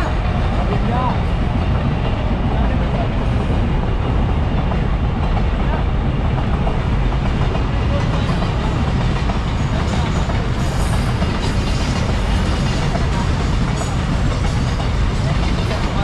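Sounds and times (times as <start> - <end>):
freight wagons rumbling on rails: 0.0 - 16.0.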